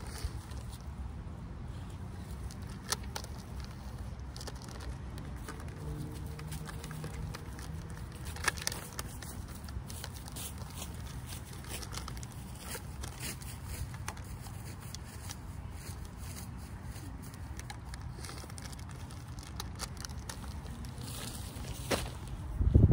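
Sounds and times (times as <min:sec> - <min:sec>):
plastic bag crinkling: 0:02.1 - 0:22.4.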